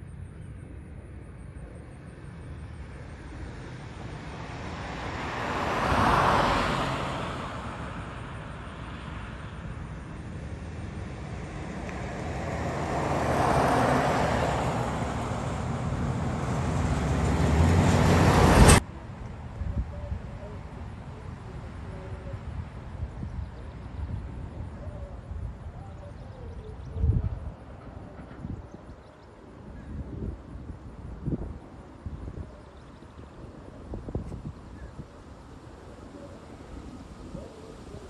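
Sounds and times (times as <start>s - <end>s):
cars passing: 0.2s - 38.0s.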